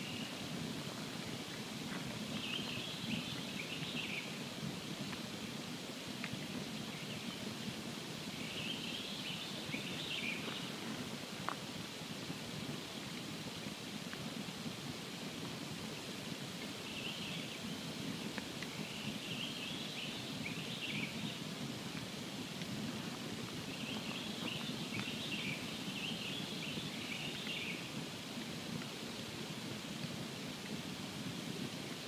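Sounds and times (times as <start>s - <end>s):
campfire burning: 0.0s - 32.0s.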